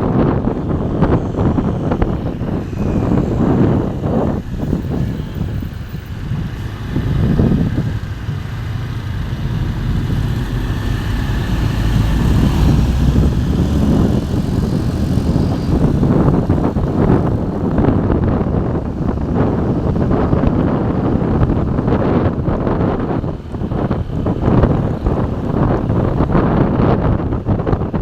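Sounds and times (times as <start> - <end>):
vehicle engine rumble: 0.0 - 28.0
wind buffeting microphone: 0.0 - 28.0.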